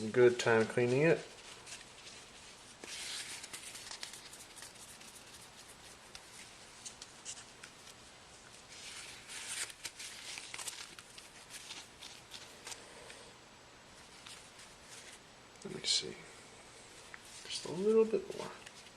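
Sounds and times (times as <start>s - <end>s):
soft rubbing: 0.0s - 13.3s, 13.9s - 15.4s, 16.7s - 18.9s.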